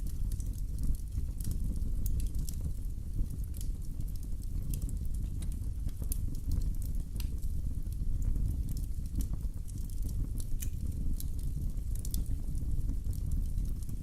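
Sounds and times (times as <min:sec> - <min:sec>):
low rumble of flames: 0:00.0 - 0:14.0
sharp pops from fire: 0:00.0 - 0:14.0
wood fire crackling: 0:00.0 - 0:14.0.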